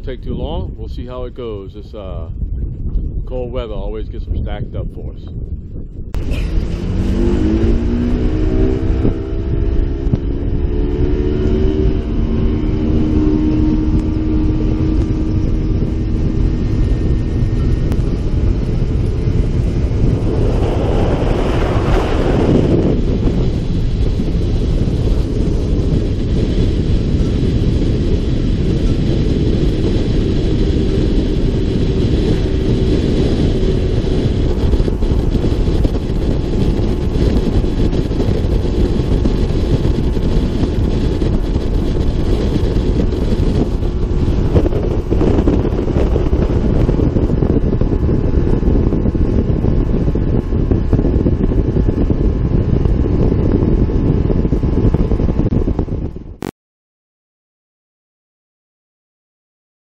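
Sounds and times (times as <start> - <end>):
wind buffeting microphone: 0.0 - 56.5
outboard motor droning: 6.2 - 55.8.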